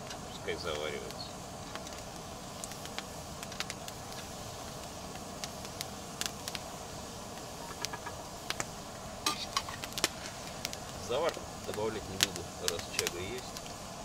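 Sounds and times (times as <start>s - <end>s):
small clicks and ticks: 0.0s - 6.7s, 7.3s - 8.7s, 9.5s - 13.8s
gas stove burner hissing: 0.0s - 14.0s.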